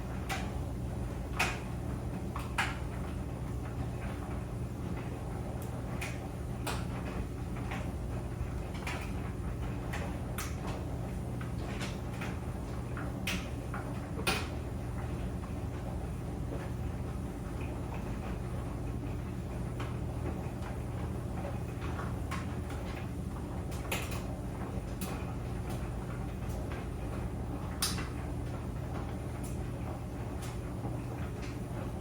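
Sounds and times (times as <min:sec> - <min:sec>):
clothes dryer humming: 0:00.0 - 0:32.0.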